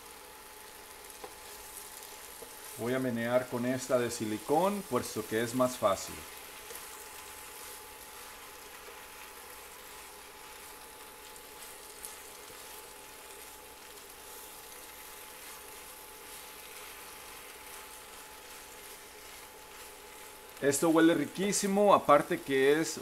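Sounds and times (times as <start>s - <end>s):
spatula stirring in a pan: 0.0s - 21.6s
pasta sauce sizzling in a frying pan: 0.0s - 23.0s.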